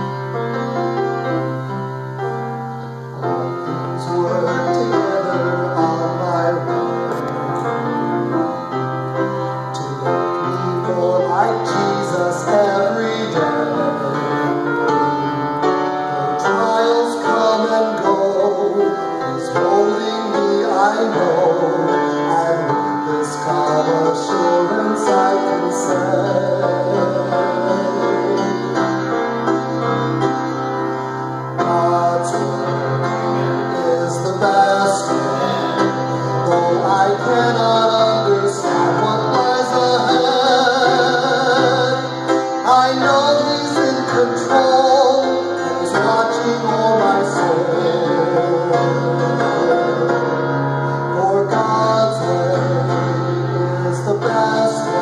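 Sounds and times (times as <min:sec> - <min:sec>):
grand piano accompaniment: 0:00.0 - 0:55.0
man singing into microphone: 0:03.2 - 0:08.7, 0:09.6 - 0:30.6, 0:31.5 - 0:55.0.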